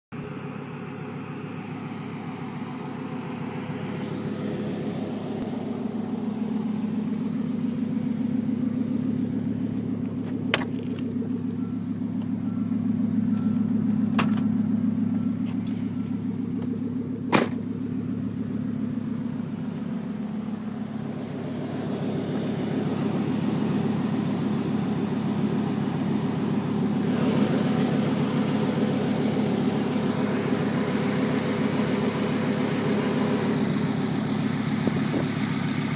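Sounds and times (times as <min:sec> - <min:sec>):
car engine running: 0:00.1 - 0:35.9
engine ticking: 0:00.2 - 0:35.9.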